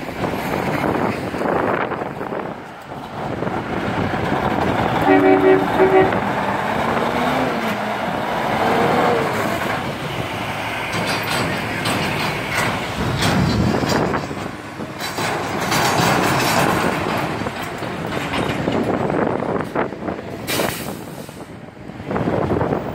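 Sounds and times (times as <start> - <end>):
diesel truck engine: 0.0 - 22.9
passing cars: 0.0 - 22.9.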